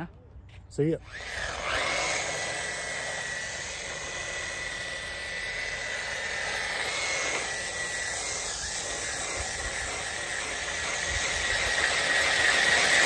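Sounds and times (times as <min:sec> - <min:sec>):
rc car motor whine: 0:01.0 - 0:13.0.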